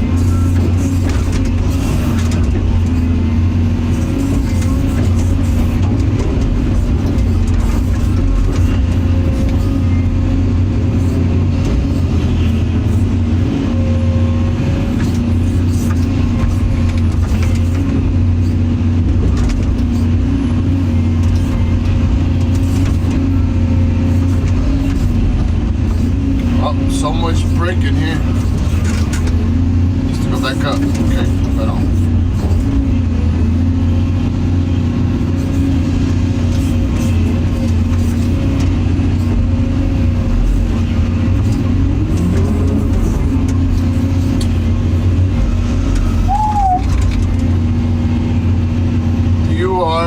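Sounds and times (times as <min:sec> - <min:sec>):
excavator diesel engine drone: 0:00.0 - 0:50.0.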